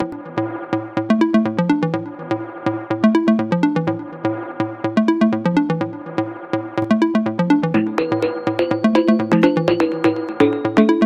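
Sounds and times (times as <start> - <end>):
electronic music with synth and beat: 0.0 - 11.0.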